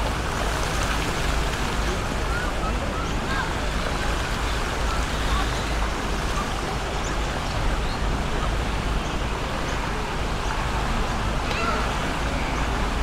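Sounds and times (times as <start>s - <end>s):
city ambience with low rumble: 0.0s - 13.0s.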